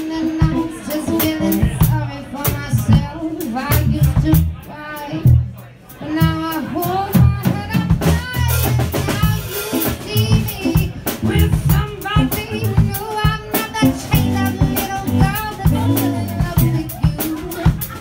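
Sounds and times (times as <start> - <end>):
woman singing: 0.0 - 5.4, 6.0 - 18.0
drum kit beat: 0.0 - 18.0.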